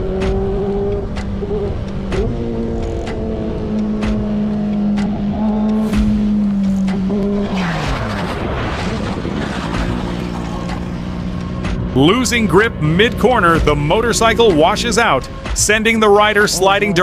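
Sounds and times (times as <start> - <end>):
motorcycle engine running: 0.0 - 7.6, 9.1 - 17.0
rushing road and wind noise: 0.0 - 17.0.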